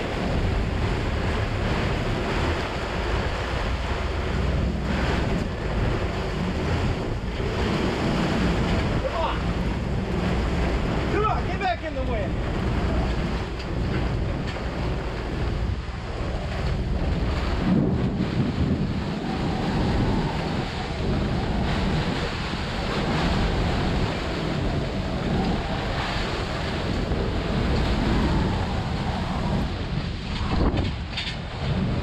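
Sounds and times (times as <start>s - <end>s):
strong wind buffeting microphone: 0.0s - 32.0s
water splashing against hull: 0.0s - 32.0s.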